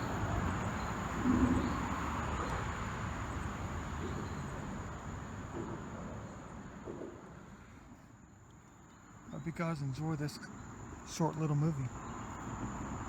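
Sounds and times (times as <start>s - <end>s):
crickets droning: 0.0s - 13.0s.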